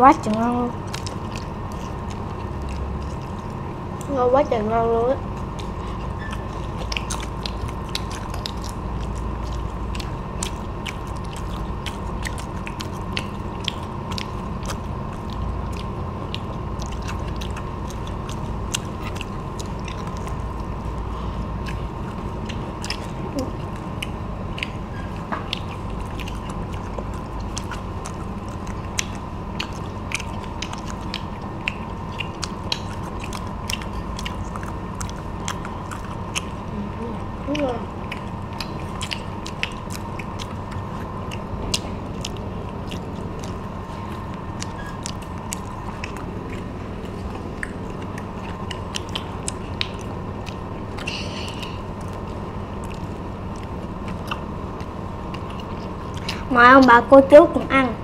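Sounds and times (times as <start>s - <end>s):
crunching and chewing fried food: 0.0s - 58.0s
steady low hum: 0.0s - 58.0s.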